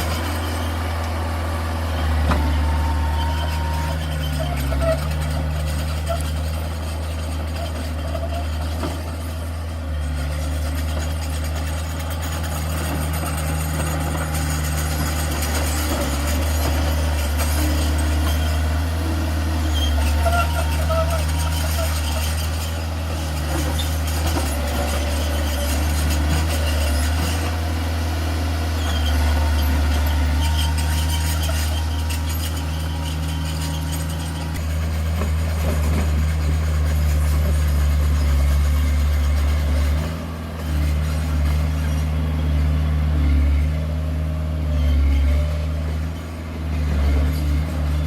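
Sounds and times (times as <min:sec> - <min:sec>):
heavy diesel engine droning: 0:00.0 - 0:48.0.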